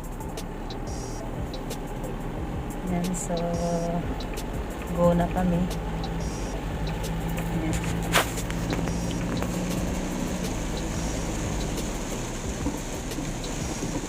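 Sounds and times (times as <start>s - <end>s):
light rain ticking: 0.0s - 14.0s
road noise: 0.0s - 14.0s
vehicle engine running: 0.0s - 14.0s.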